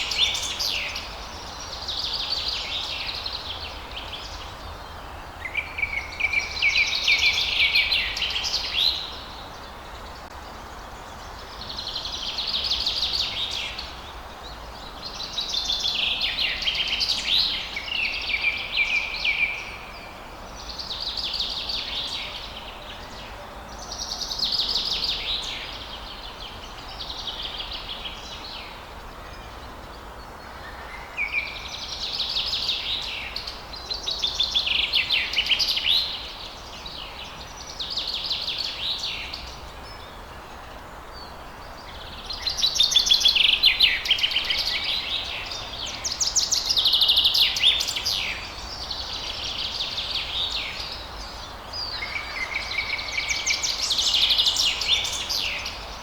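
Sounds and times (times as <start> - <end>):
faint background hiss: 0.0 - 56.0
songbird chirping and trilling: 0.0 - 56.0.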